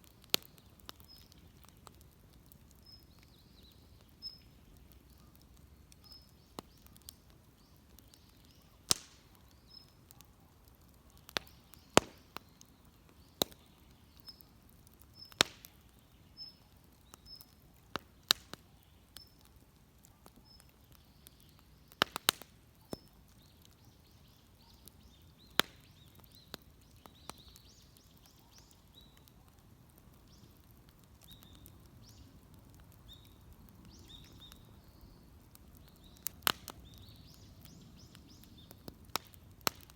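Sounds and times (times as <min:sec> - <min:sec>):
sharp pops of burning wood: 0:00.0 - 0:39.9
wood fire crackling: 0:00.0 - 0:39.9.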